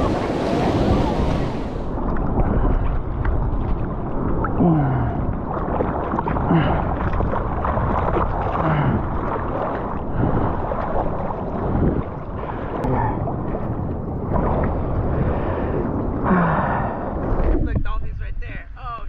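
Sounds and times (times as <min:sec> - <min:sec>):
sea water rushing: 0:00.0 - 0:17.8
wind buffeting microphone: 0:00.0 - 0:18.6.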